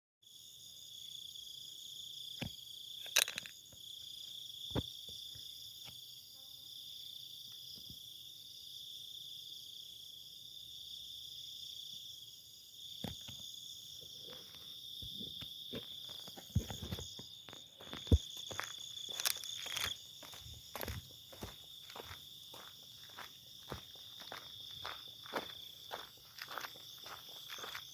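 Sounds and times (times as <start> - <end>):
insect chorus trilling: 0.2 - 27.9.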